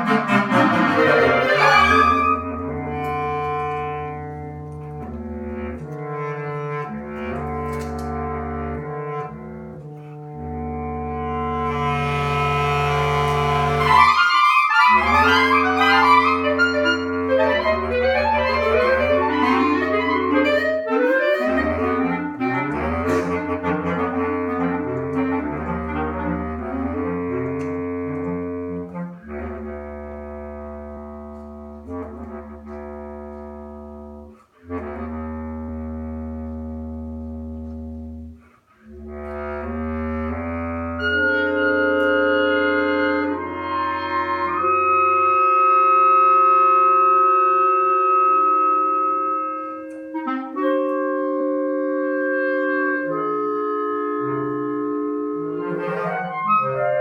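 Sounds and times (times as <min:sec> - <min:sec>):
instrumental ensemble flurries: 0:00.0 - 0:31.0, 0:38.8 - 0:57.0.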